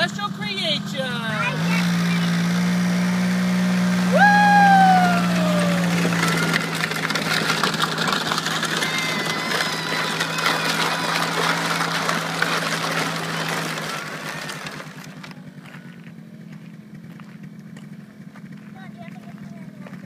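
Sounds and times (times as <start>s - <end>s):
quad engine running: 0.0s - 20.0s
plastic sled scraping on gravel: 1.3s - 20.0s.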